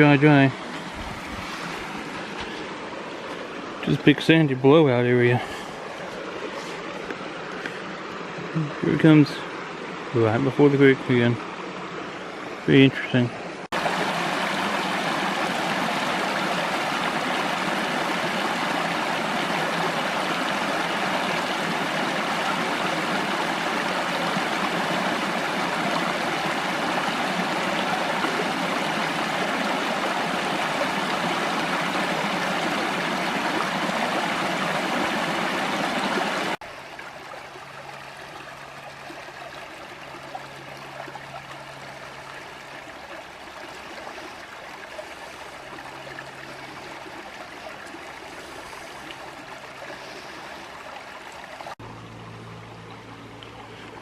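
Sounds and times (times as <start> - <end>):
creek water running over rocks: 0.0 - 54.0
soft flow of water: 0.0 - 54.0.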